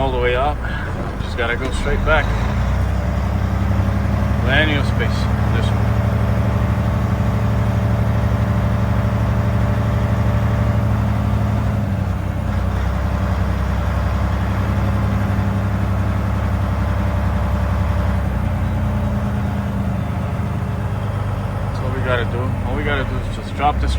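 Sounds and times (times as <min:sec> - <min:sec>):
truck diesel engine at low revs: 0:00.0 - 0:23.9.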